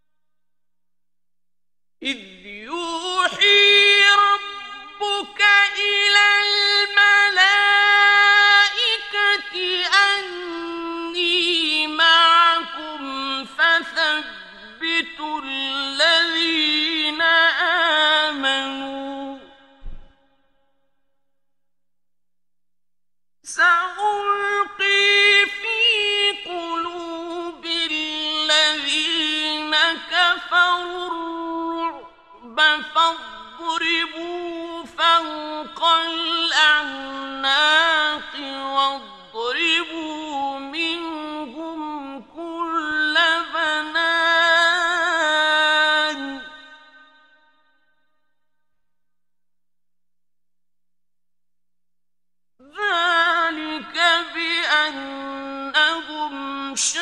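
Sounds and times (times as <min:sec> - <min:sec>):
man chanting in a high voice: 0:02.0 - 0:20.0, 0:23.5 - 0:47.5, 0:52.6 - 0:57.0.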